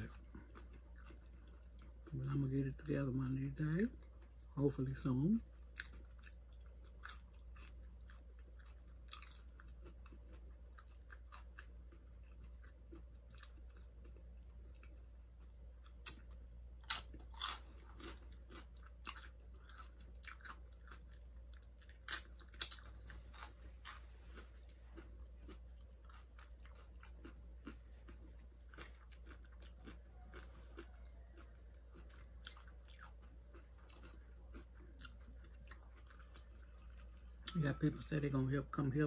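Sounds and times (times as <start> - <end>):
person chewing crunchy chips: 0.0 - 38.3.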